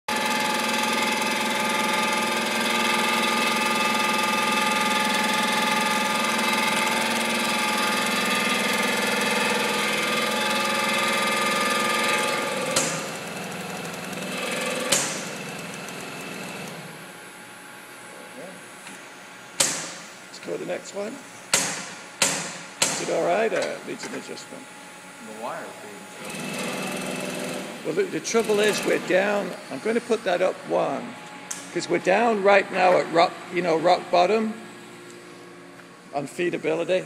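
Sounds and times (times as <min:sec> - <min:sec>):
welding arc buzz: 0:00.1 - 0:35.6.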